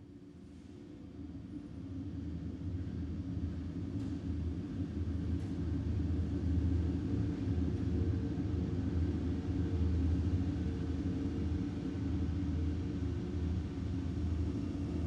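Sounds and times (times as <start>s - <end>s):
low rumble and hum of factory: 0.0s - 15.0s.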